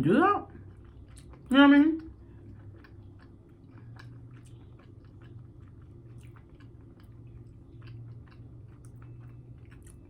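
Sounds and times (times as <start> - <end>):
steady low hum: 0.0 - 10.0
person chewing: 0.5 - 10.0.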